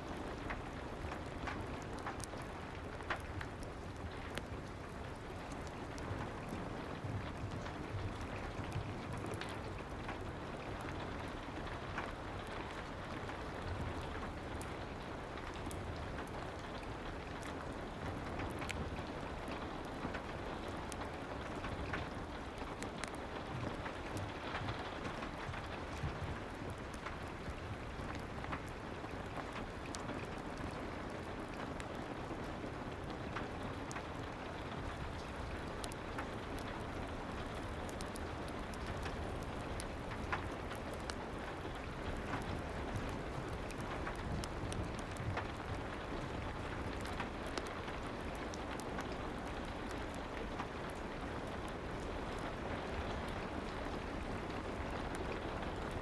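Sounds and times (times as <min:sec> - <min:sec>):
fireplace crackling: 0:00.0 - 0:55.9
soft rain: 0:00.0 - 0:56.0.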